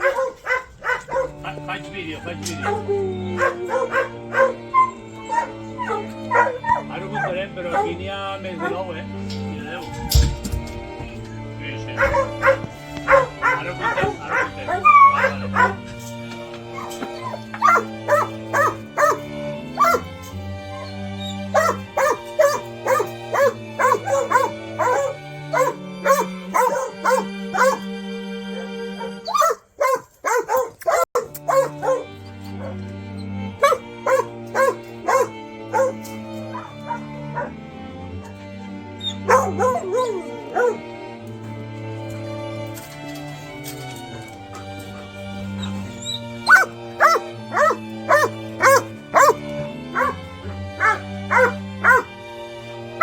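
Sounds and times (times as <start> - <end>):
dogs barking and yelping: 0.0 - 1.5, 2.1 - 8.0, 8.6 - 8.8, 11.8 - 27.9, 28.5 - 37.6, 38.3 - 41.1, 44.4 - 52.2
background music with bass notes: 0.0 - 53.0.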